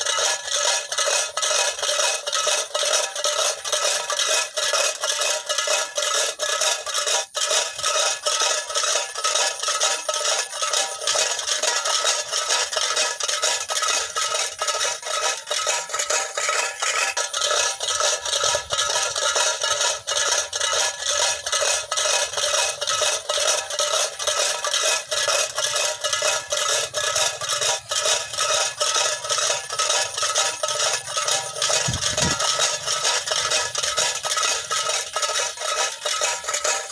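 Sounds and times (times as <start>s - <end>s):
tin cans rattling with stones: 0.0s - 36.9s.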